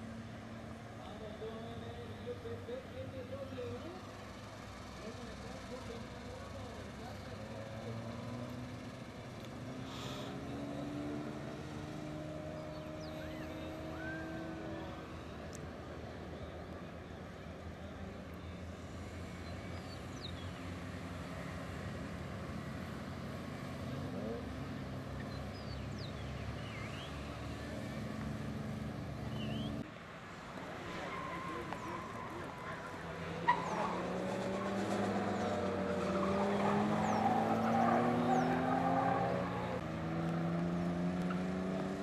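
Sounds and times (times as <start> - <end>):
cars driving past: 0.0 - 42.0.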